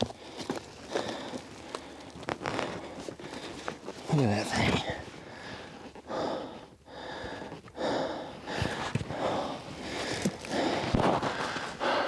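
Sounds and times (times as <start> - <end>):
person breathing hard: 0.0 - 3.9, 4.9 - 12.0.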